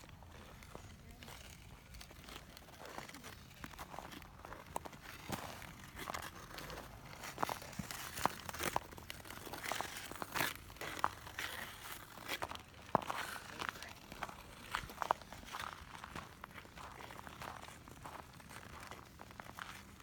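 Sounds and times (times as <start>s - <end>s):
footsteps crunching: 0.7s - 19.8s.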